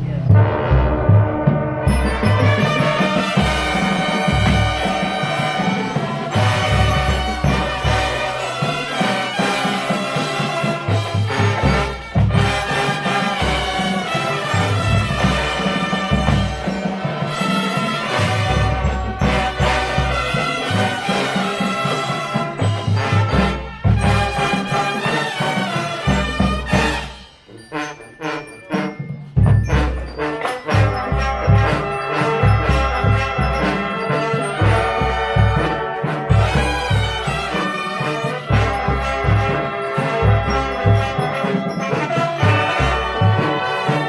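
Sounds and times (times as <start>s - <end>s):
brass chords: 0.0s - 44.0s
drum and bugle corps playing: 0.0s - 44.0s.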